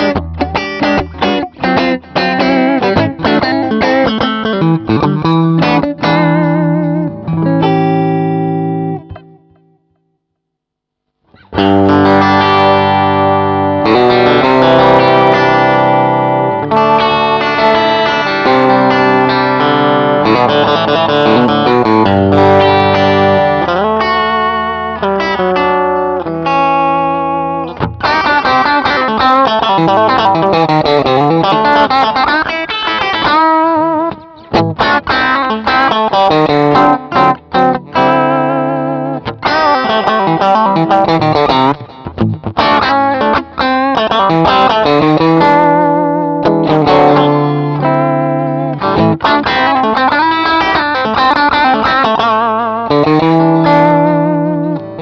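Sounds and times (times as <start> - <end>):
electric guitar chords and notes: 0.0 - 10.3, 11.1 - 55.0.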